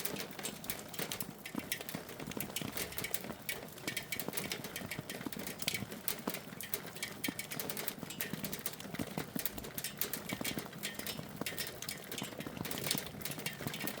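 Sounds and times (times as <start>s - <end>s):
hailstones striking hard surfaces: 0.0s - 14.0s.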